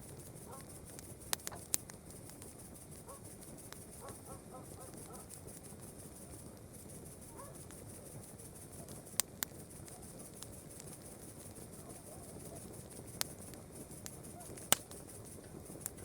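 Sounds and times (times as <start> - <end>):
campfire crackling and popping: 0.0 - 16.0
night insects trilling: 0.0 - 16.0.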